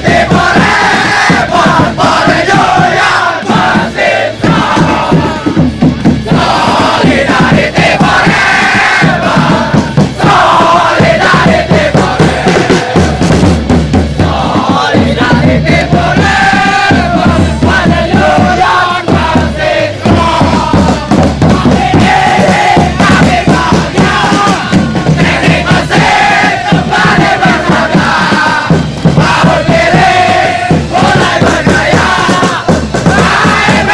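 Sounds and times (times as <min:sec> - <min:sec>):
bass-drum beat music: 0:00.0 - 0:33.9
group of voices chanting: 0:00.0 - 0:33.9.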